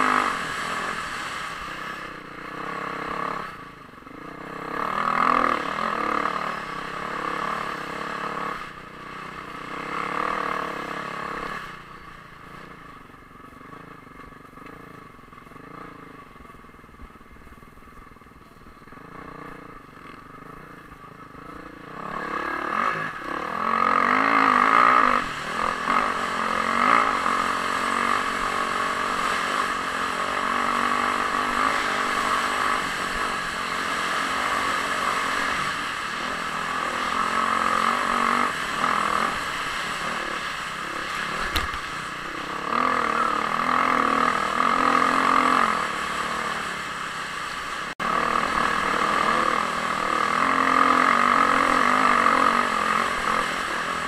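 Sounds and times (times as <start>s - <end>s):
dirt bike engine revving: 0.0s - 12.9s, 18.9s - 54.0s.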